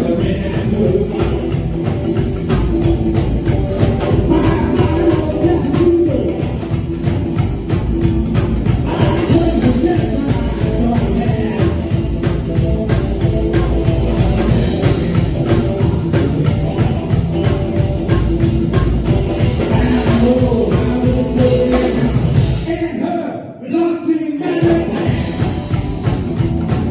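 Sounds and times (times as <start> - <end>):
upright double bass: 0.0 - 22.6, 24.6 - 26.9
electric guitar: 0.0 - 22.7, 24.6 - 26.9
drums: 0.0 - 23.1, 24.4 - 26.9.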